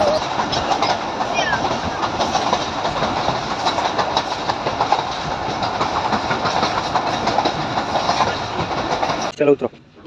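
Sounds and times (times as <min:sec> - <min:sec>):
train carriage rumbling: 0:00.0 - 0:10.0
wheels clicking on rails: 0:00.0 - 0:10.0.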